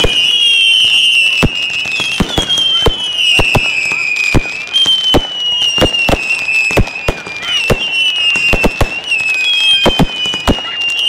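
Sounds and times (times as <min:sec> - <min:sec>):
fireworks bangs: 0:00.0 - 0:11.0
whistling fireworks: 0:00.0 - 0:11.0.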